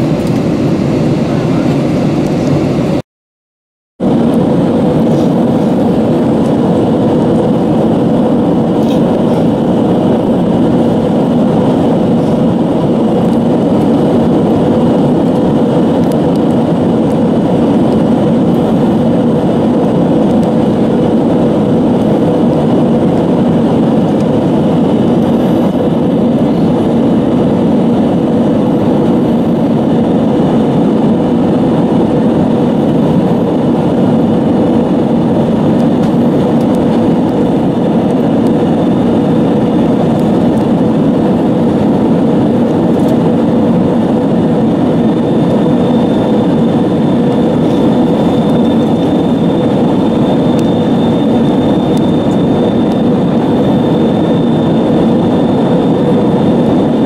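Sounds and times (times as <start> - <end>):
jet engine and airflow roar: 0.0 - 3.0, 4.0 - 57.0.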